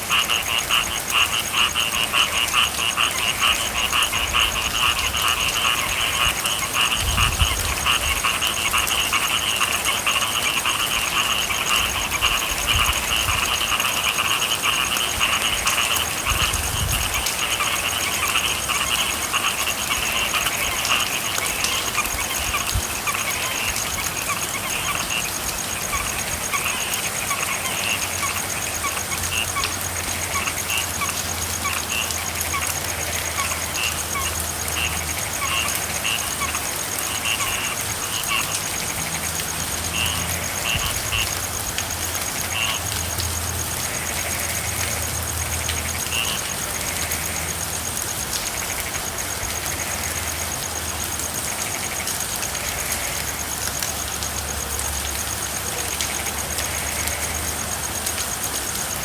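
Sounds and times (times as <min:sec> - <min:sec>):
frogs calling: 0:00.0 - 0:59.0
steady rain hiss: 0:00.0 - 0:59.0.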